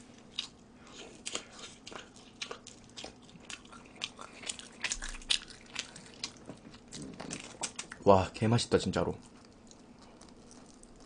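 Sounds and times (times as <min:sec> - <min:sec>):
person chewing food: 0:00.0 - 0:08.0, 0:08.8 - 0:11.0.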